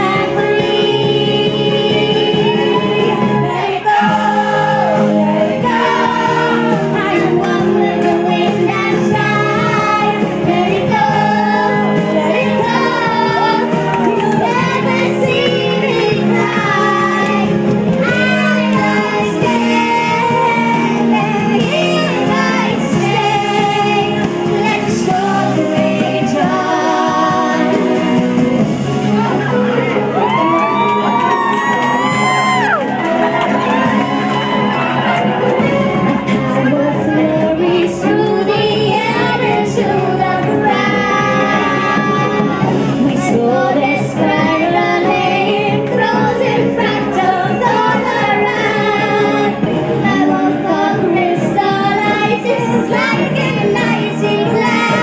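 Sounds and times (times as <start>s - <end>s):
girl singing through microphone: 0.0s - 28.0s, 36.3s - 55.0s
backing music: 0.0s - 55.0s.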